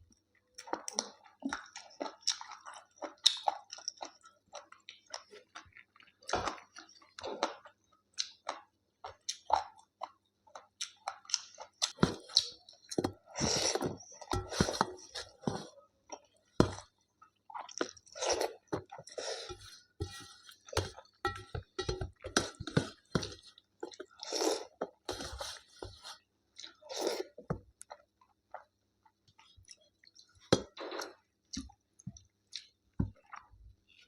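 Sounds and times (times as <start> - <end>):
person chewing and crunching food: 0.1 - 34.0.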